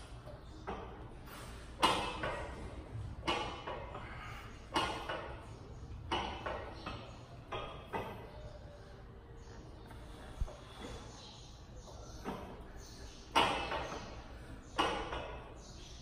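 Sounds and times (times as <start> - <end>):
row machine metal clanks: 0.2 - 8.4, 10.6 - 16.0.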